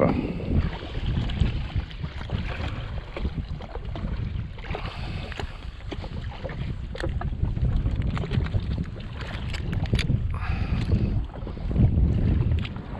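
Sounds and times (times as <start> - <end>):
water sounds: 0.0 - 12.9
wind buffeting microphone: 0.0 - 12.9.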